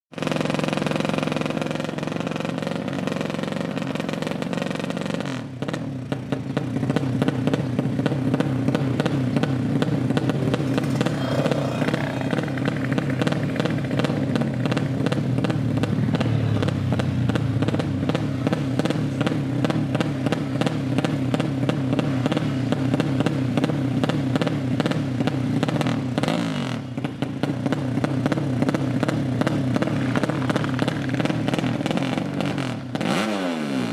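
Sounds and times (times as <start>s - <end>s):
motorcycle engine idling: 0.2s - 33.0s.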